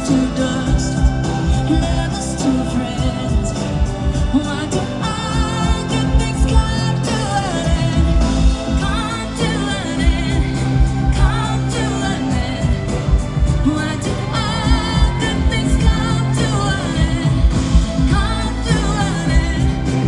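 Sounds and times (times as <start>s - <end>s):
pop band playing: 0.0s - 20.0s
woman singing: 0.0s - 20.0s.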